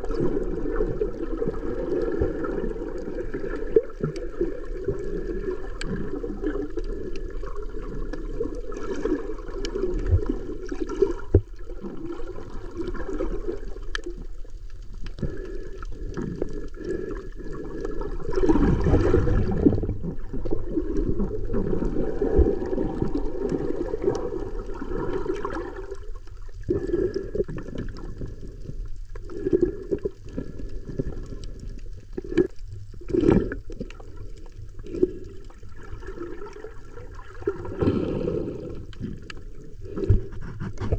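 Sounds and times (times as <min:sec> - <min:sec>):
underwater water sloshing: 0:00.0 - 0:40.9.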